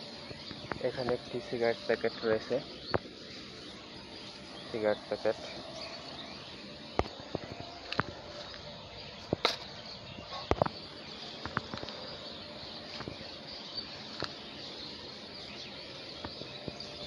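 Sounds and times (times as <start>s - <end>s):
insect hiss: 0.0s - 17.0s.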